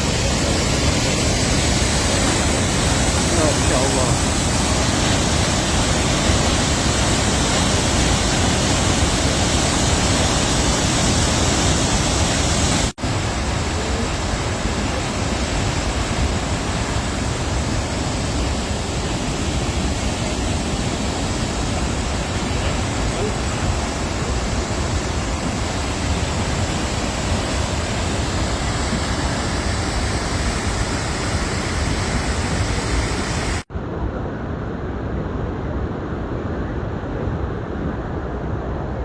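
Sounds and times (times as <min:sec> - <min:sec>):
waterfall rushing: 0:00.0 - 0:33.7.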